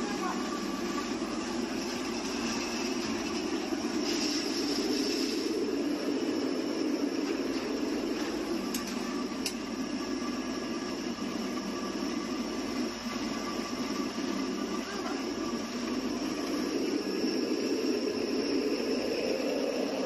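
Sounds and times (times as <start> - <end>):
electric grinding mill drone: 0.0 - 20.0.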